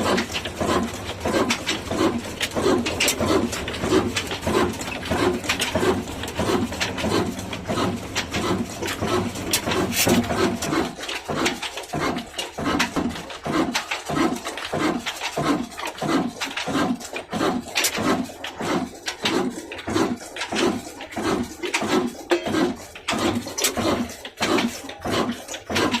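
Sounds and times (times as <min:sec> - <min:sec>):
old diesel engine chuffing: 0:00.0 - 0:26.0.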